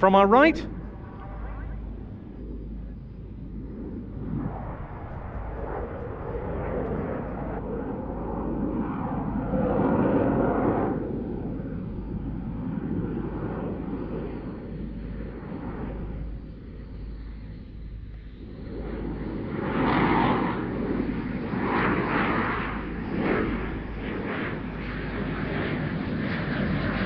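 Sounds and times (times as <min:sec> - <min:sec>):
jet rumble: 0:00.0 - 0:27.0.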